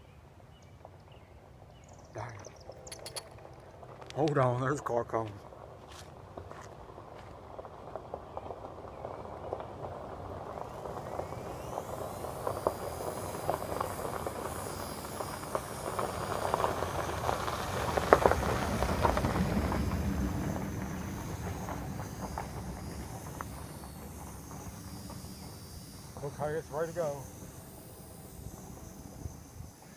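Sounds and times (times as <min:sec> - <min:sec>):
crackles: 0:01.8 - 0:29.9
car passing: 0:04.6 - 0:29.8.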